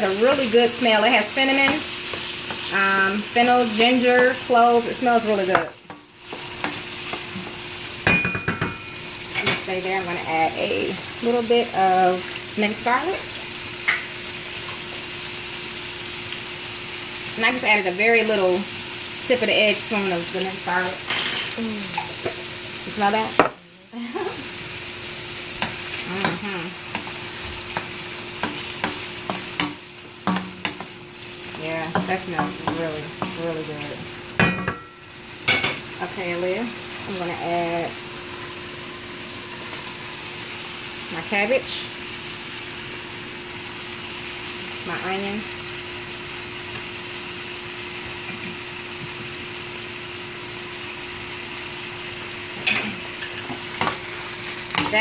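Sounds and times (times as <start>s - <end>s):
chicken and garlic sizzling in oil: 0.0s - 55.0s.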